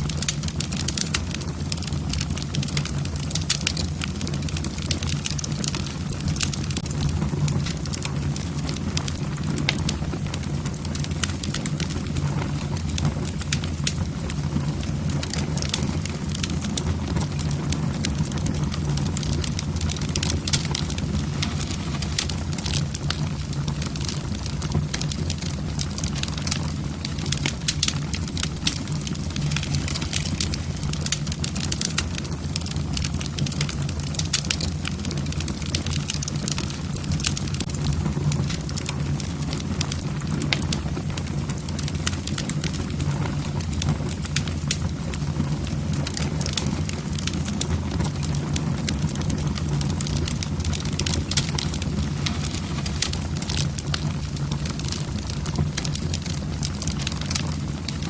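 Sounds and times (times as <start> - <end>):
fire flames rumbling: 0.0 - 58.0
logs crackling and popping: 0.0 - 58.0.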